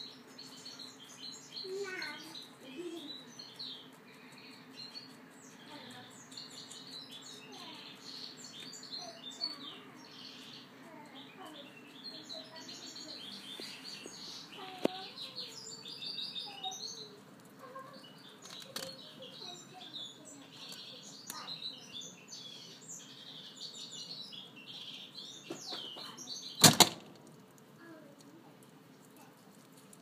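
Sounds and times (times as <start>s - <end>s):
rabbit crunching leaves: 0.1s - 21.6s, 27.0s - 30.0s.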